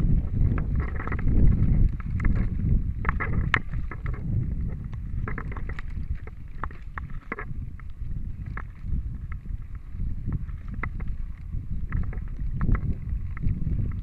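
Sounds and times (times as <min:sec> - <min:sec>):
bike tyres rumbling on dirt: 0:00.0 - 0:14.0
wind buffeting microphone: 0:00.0 - 0:14.0.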